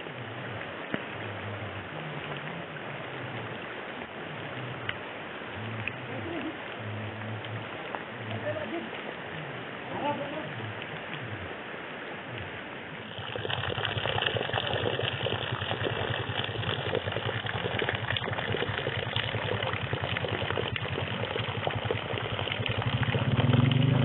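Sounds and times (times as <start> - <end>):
low hum: 0.0 - 24.0
rain falling on water: 0.0 - 24.0
rainwater pouring into puddle: 0.0 - 24.0.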